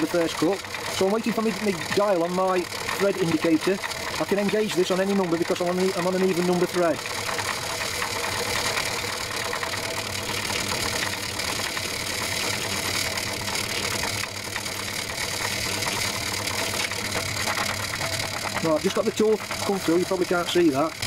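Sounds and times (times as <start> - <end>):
fine rapid ticking: 0.0 - 21.0
lathe running slowly: 0.0 - 21.0.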